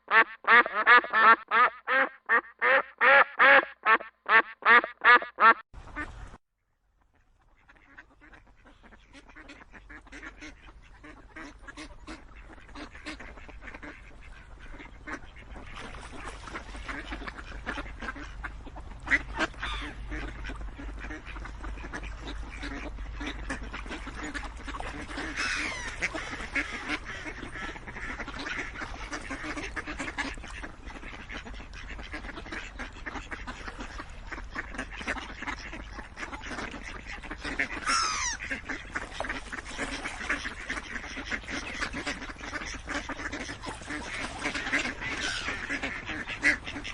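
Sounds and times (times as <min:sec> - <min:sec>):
ducks quacking: 0:00.0 - 0:06.4, 0:07.0 - 0:46.9.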